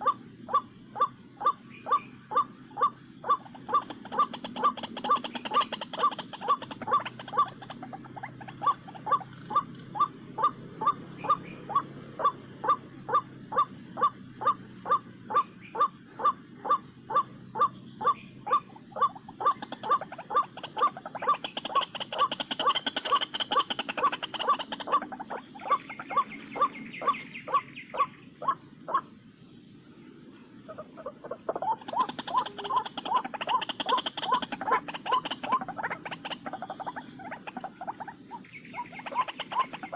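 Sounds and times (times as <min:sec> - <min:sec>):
waterbird calling: 0:00.0 - 0:29.1, 0:30.7 - 0:39.9
high insect drone: 0:00.0 - 0:39.9.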